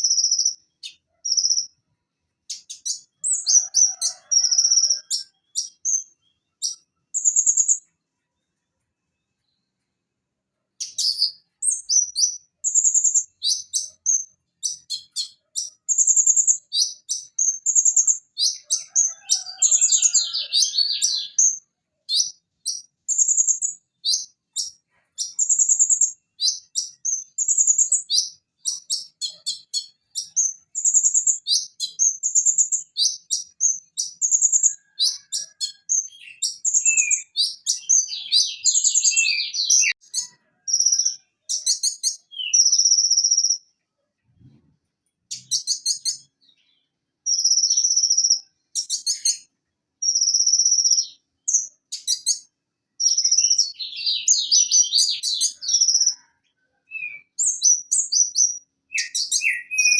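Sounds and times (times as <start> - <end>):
bird singing high chirps and trills: 0.0 - 10.0, 10.7 - 44.6, 45.3 - 59.9.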